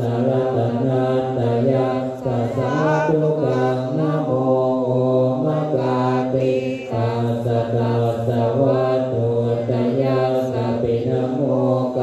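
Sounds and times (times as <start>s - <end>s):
monks chanting in unison: 0.0s - 12.0s.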